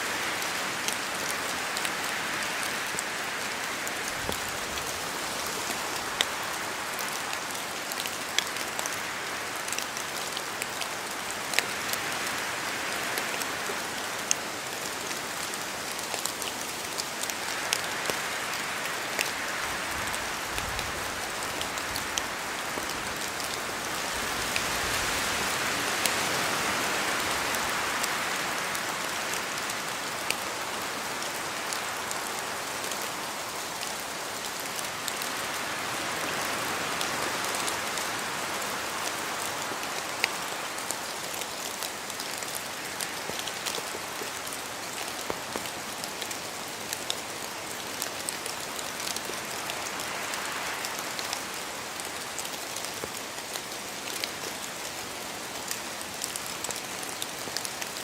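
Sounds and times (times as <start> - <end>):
steady rain in forest: 0.0 - 58.0
wind through trees: 0.0 - 58.0.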